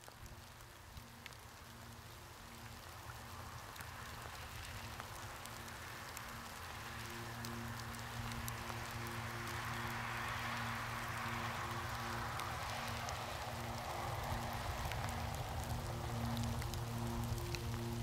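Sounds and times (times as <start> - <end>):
sharp taps of raindrops: 0.0 - 18.0
steady rain falling: 0.0 - 18.0.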